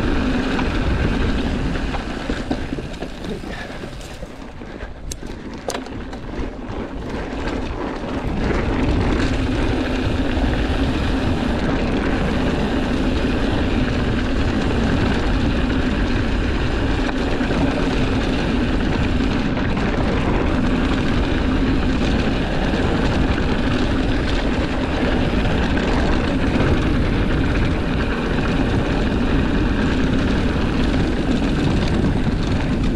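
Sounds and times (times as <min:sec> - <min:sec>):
bike tyres rolling over dirt: 0:00.0 - 0:32.9
wind on microphone: 0:00.0 - 0:32.9.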